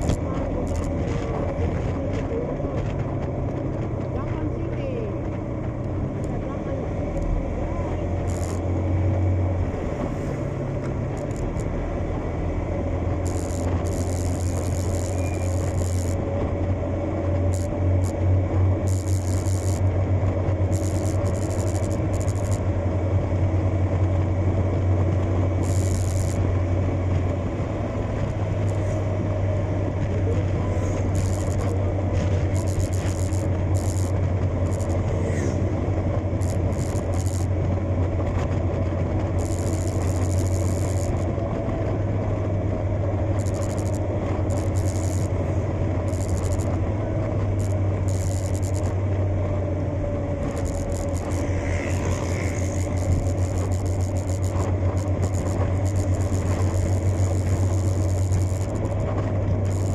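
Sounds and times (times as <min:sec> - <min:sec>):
motorcycle engine drone: 0:00.0 - 0:59.9.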